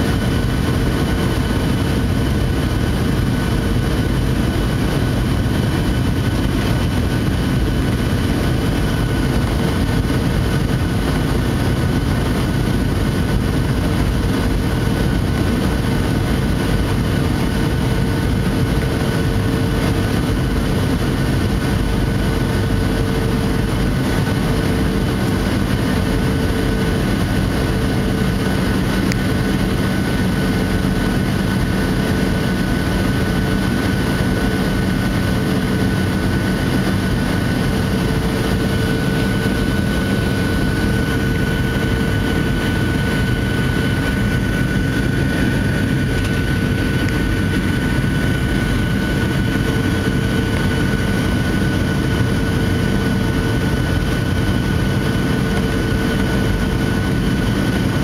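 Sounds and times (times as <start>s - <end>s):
airliner engine drone: 0.0s - 58.0s
low hum: 0.0s - 58.0s
rushing air in cabin: 0.0s - 58.0s
steady whining tones: 0.0s - 58.0s.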